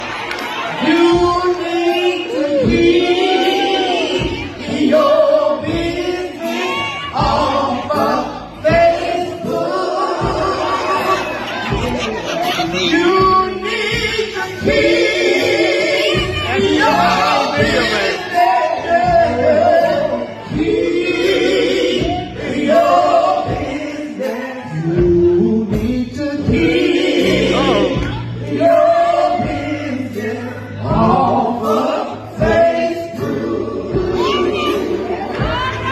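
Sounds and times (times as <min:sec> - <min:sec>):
gospel song with male voice and choir: 0:00.0 - 0:35.9.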